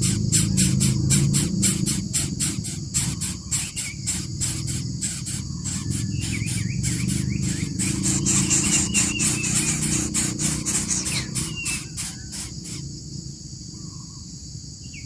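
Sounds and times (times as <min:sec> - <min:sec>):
faint bird chirps: 0:00.0 - 0:12.8
steady low hum: 0:00.0 - 0:12.8
insects chirping: 0:00.0 - 0:15.0.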